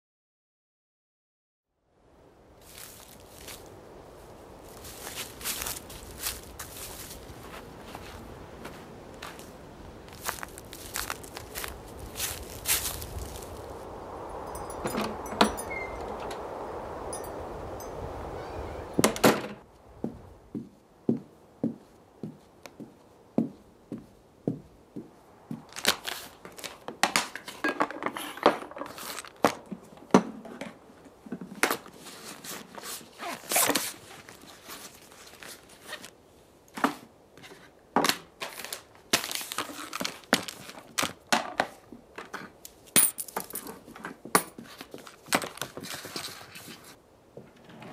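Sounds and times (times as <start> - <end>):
steady noisy hiss: 1.8 - 47.9.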